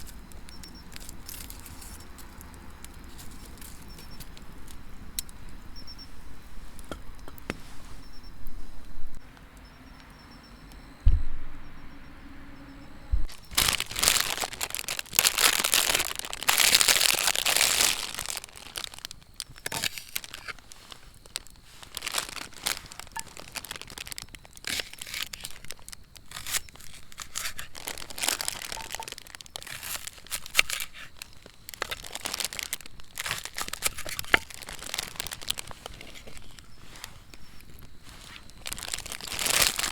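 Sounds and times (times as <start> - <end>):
rustling and crinkling: 0.0 - 9.8, 13.2 - 39.9.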